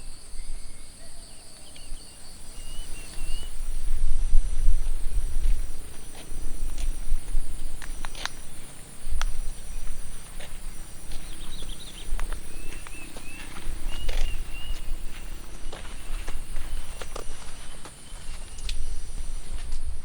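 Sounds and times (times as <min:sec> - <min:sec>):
footsteps on a trail: 0:01.8 - 0:20.0.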